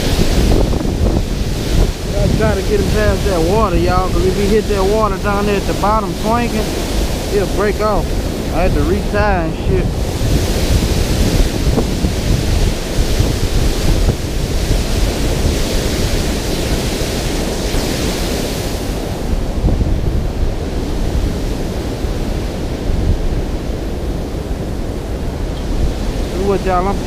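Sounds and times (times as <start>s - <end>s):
water rushing over dam spillway: 0.0s - 27.0s
wind buffeting microphone: 0.0s - 27.0s.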